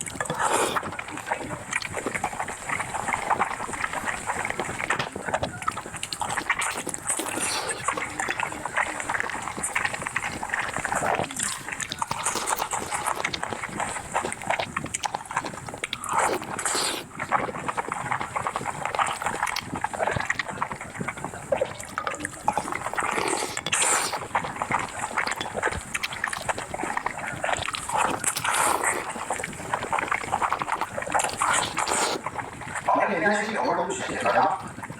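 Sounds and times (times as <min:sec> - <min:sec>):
chewing and slurping food: 0:00.0 - 0:34.9.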